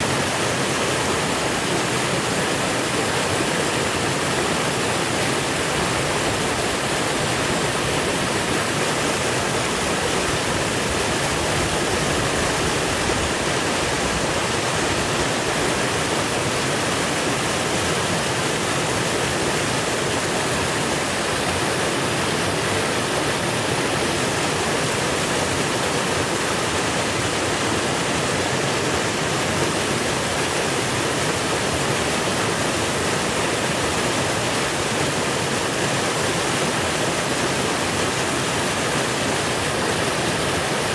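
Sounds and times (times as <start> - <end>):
creek water babbling over rocks: 0.0 - 40.9.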